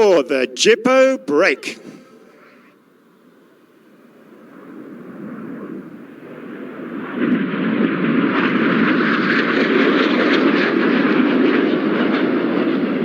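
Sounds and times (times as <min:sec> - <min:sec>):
jet engines passing close: 0:00.0 - 0:13.0.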